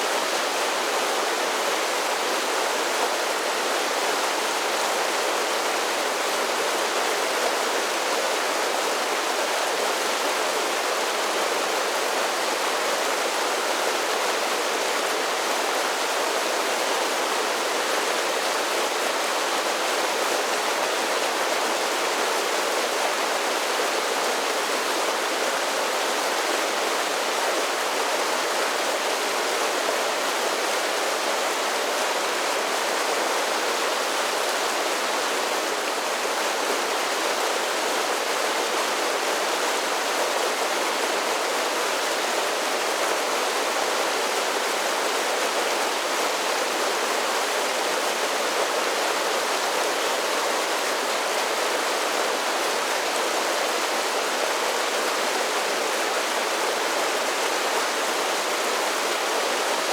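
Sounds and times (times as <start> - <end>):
creek rushing over waterfalls: 0.0 - 59.9.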